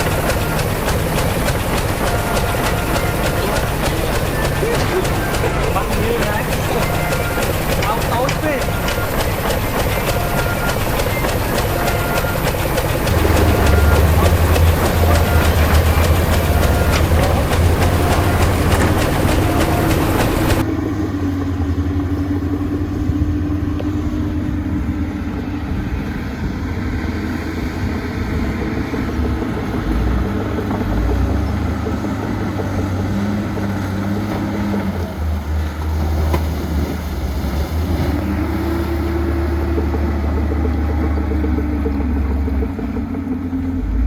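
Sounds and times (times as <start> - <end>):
heavy diesel engine droning: 0.0 - 44.0.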